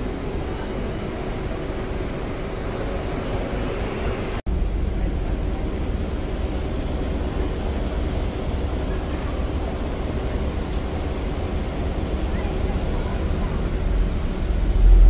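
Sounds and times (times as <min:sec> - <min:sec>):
bus rumbling: 0:00.0 - 0:15.0
traffic: 0:00.0 - 0:15.0.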